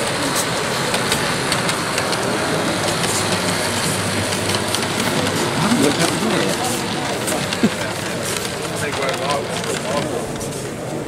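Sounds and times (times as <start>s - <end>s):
crowd hubbub: 0.0s - 11.0s
model locomotive engine drone: 0.0s - 11.0s.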